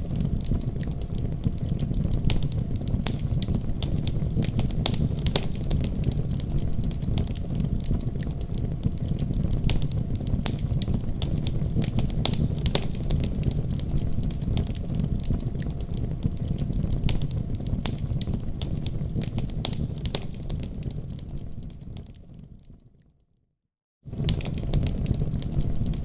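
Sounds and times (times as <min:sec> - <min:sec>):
flames rumbling: 0:00.0 - 0:22.8, 0:24.1 - 0:26.0
fire crackling and popping: 0:00.0 - 0:23.0, 0:24.1 - 0:26.0.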